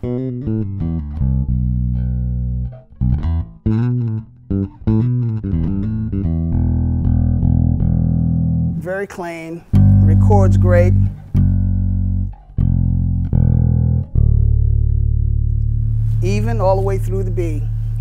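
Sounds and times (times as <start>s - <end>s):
electric bass played fingerstyle: 0.0s - 18.0s.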